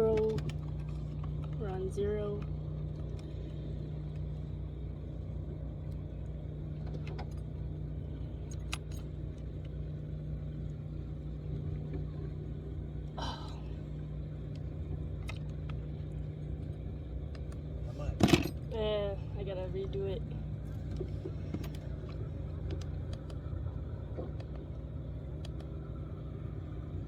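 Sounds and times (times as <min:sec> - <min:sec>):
low motor hum: 0:00.0 - 0:27.0.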